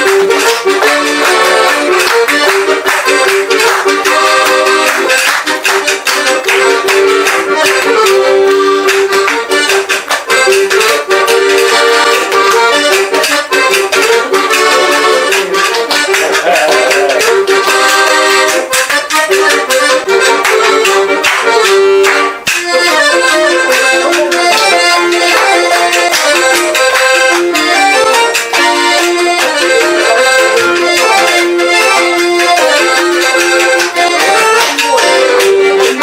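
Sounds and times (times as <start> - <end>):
accordion playing lively tune: 0.0 - 36.0.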